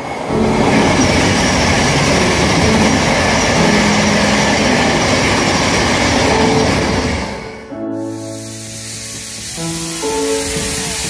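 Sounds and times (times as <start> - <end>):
train rushing past: 0.0 - 11.0.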